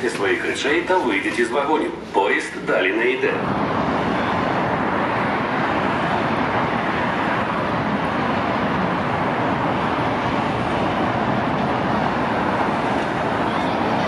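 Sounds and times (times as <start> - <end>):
cars passing on road: 0.0 - 14.0
metro train running: 0.0 - 14.0.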